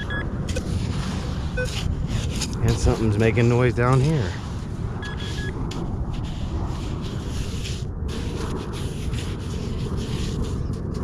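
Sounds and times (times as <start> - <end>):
low rumble: 0.0 - 11.0
scraping in sand: 0.4 - 11.0.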